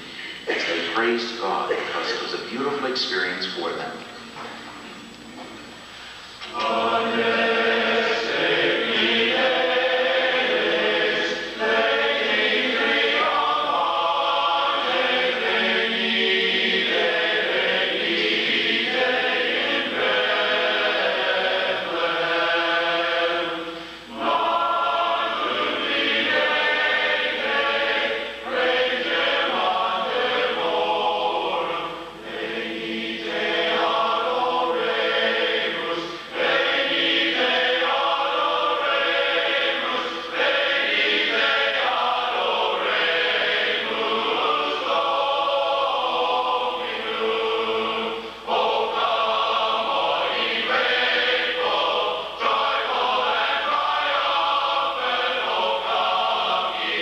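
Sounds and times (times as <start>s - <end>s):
men's chorus singing a cappella: 6.5s - 57.0s.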